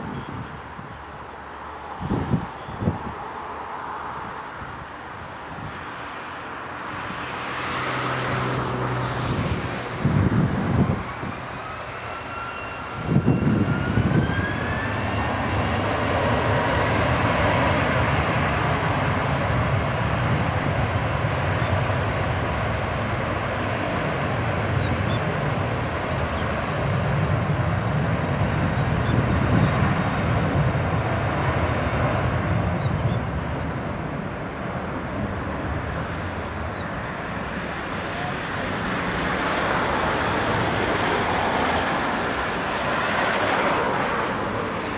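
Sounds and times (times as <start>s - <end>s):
jet engines at takeoff thrust: 0.0s - 44.9s.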